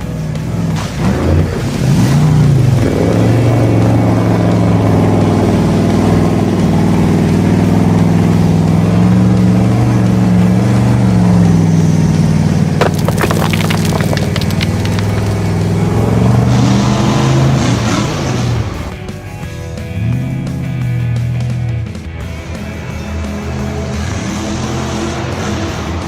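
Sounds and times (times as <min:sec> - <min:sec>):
vehicle engine revving: 0:00.0 - 0:12.8, 0:14.6 - 0:19.0, 0:19.8 - 0:26.0.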